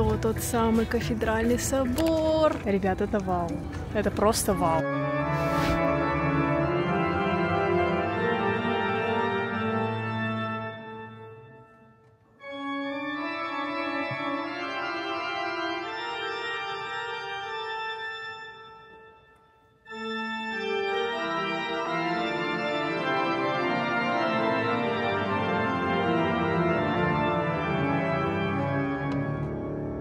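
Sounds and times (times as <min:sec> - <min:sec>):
pipe organ playing chords: 0:03.3 - 0:30.0.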